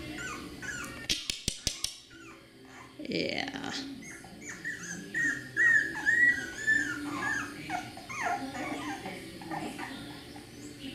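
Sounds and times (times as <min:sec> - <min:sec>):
puppy whimpering: 0:00.0 - 0:03.1, 0:03.7 - 0:10.8.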